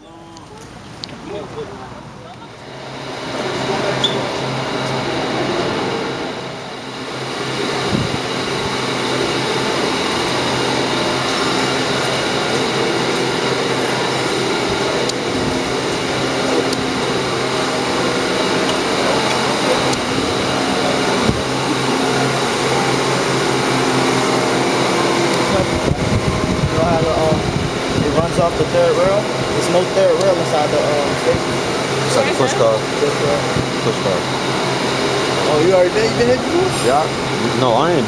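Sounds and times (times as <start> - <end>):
fans and machinery whirring: 0.0 - 38.0.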